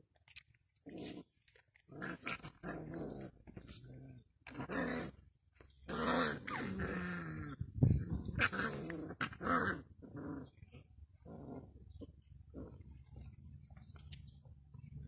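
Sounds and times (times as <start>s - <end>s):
puppies growling: 0.8s - 15.0s.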